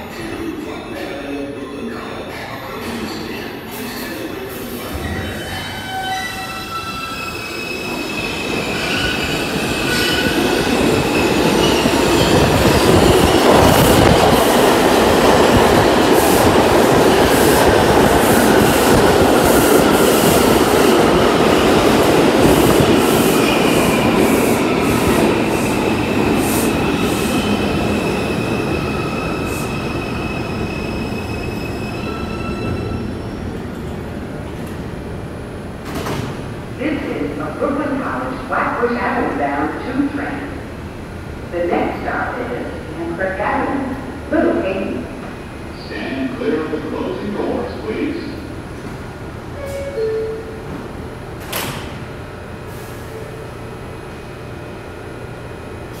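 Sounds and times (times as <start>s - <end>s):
subway train rumble: 0.0s - 56.0s.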